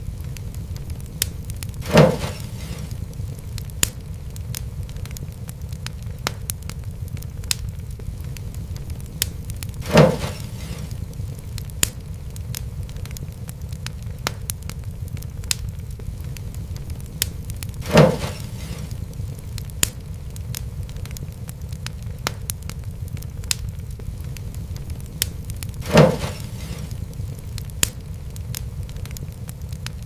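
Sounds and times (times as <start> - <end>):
loud fire pops: 0.0 - 30.0
wood fire crackling: 0.0 - 30.0.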